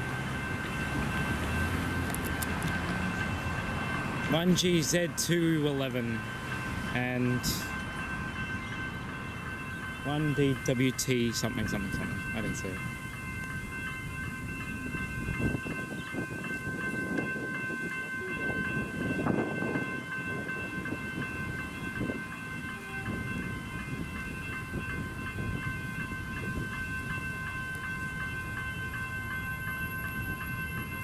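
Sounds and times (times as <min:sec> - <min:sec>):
level crossing bells ringing: 0:00.0 - 0:31.0.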